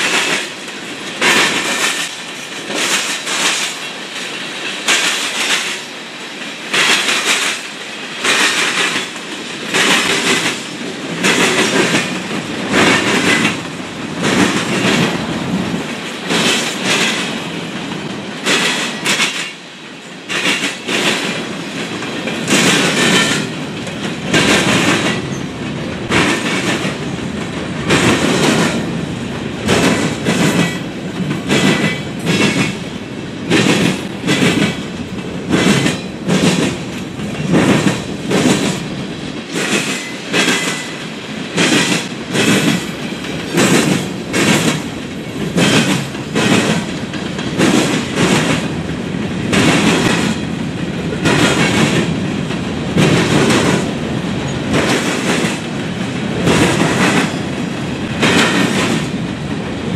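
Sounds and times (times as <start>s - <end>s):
steel wheels clacking: 0.0s - 5.9s, 6.7s - 19.6s, 20.2s - 32.9s, 33.5s - 59.9s
freight train rumbling past: 0.0s - 59.9s.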